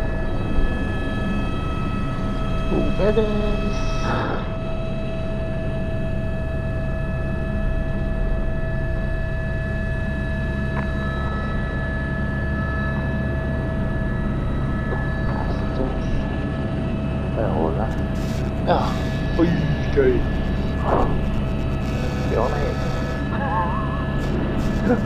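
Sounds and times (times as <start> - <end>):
helicopter rotor drone: 0.0 - 25.0
helicopter turbine whine: 0.0 - 25.0.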